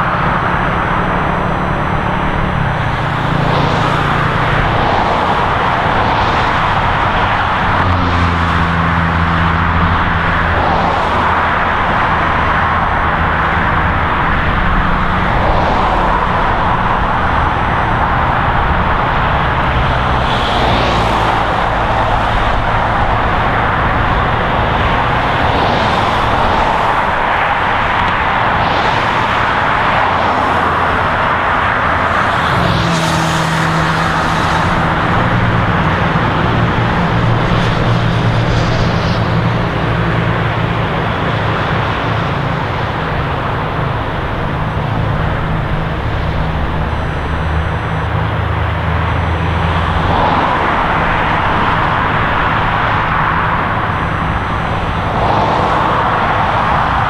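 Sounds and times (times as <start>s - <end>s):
deep engine drone: 0.0s - 57.0s
highway traffic: 0.0s - 57.0s
vehicles swishing past: 0.0s - 57.0s.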